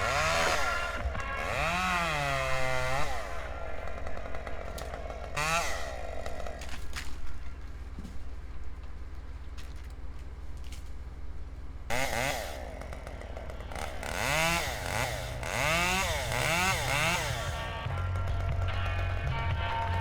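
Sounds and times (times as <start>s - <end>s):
chainsaw engine revving: 0.0s - 8.3s, 11.9s - 20.0s
low engine hum: 0.0s - 20.0s.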